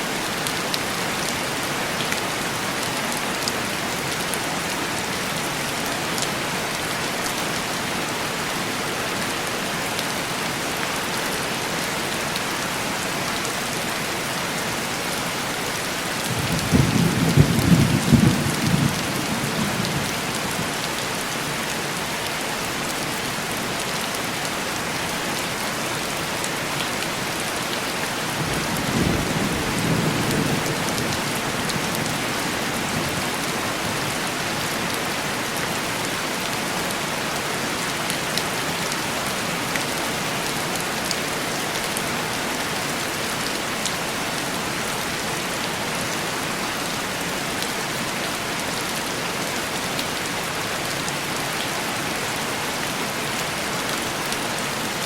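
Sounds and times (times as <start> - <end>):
heavy rain on a window: 0.1 - 55.0.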